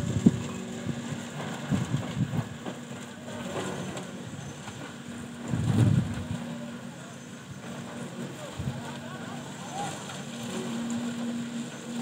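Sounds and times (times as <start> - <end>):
construction machinery engine humming: 0.0 - 12.0.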